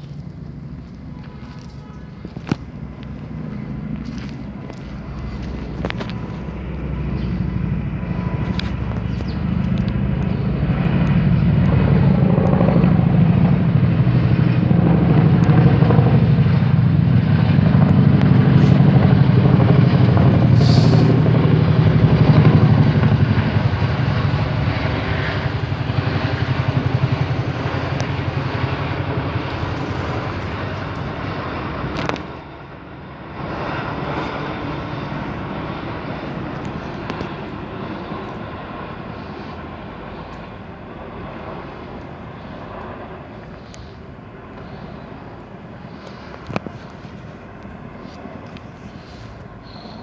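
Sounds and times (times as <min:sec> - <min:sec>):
helicopters flying over: 0:00.0 - 0:50.0.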